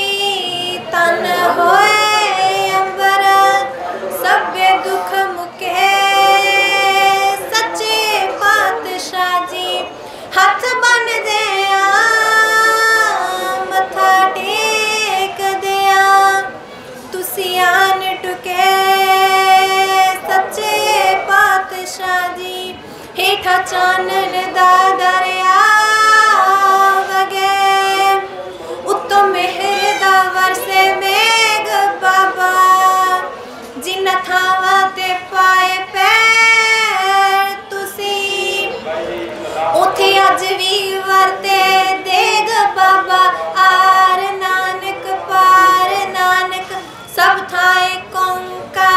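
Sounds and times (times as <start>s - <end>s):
woman singing into a microphone: 0.0s - 38.8s, 39.6s - 48.9s.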